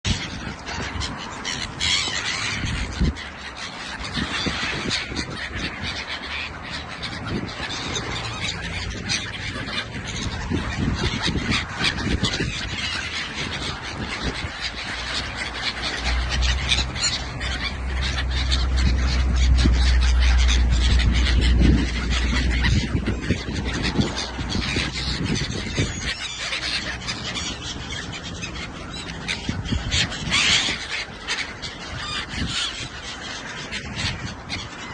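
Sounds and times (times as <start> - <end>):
gulls calling: 0.0 - 34.9.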